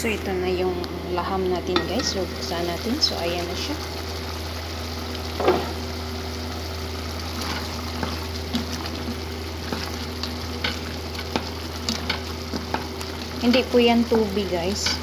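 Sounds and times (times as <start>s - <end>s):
meat sizzling in a pan: 1.2s - 15.0s.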